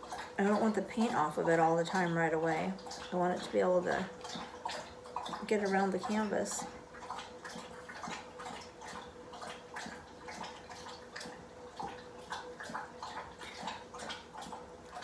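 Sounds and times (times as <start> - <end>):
dog lapping water: 0.0 - 15.0.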